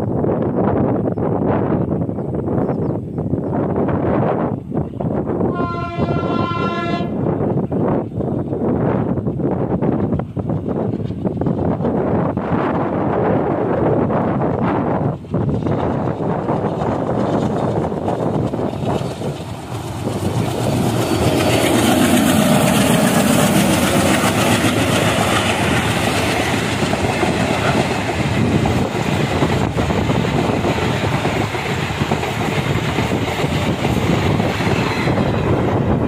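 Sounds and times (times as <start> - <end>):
diesel locomotive passing: 0.0 - 36.0
train wheels on rails: 6.8 - 36.0.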